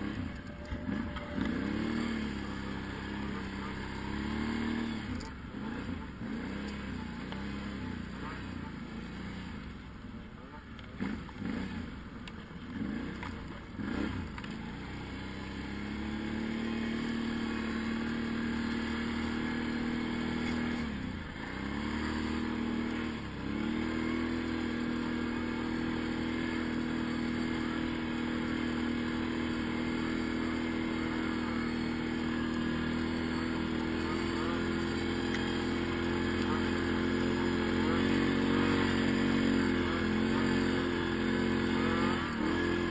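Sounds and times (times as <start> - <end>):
quad bike engine revving: 0.0 - 42.9.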